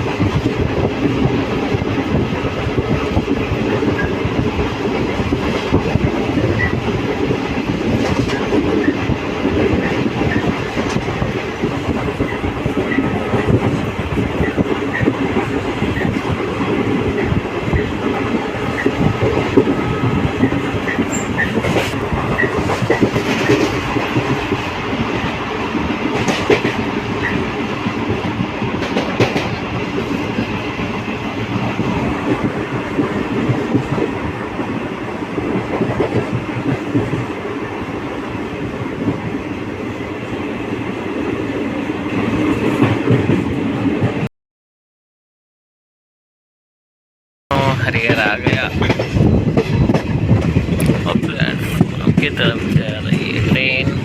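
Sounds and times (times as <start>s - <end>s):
train rumbling: 0.0s - 44.3s, 47.5s - 54.0s.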